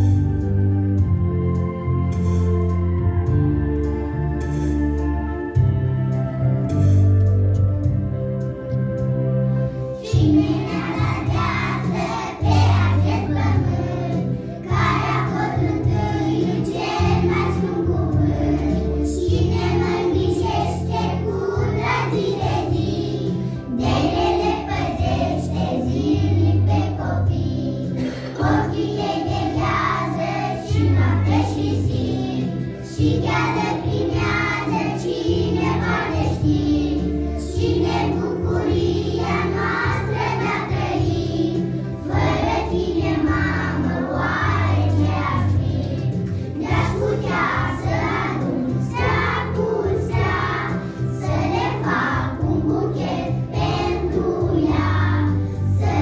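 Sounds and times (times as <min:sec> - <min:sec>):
instrumental accompaniment with bass: 0:00.0 - 0:56.0
children singing: 0:10.0 - 0:56.0.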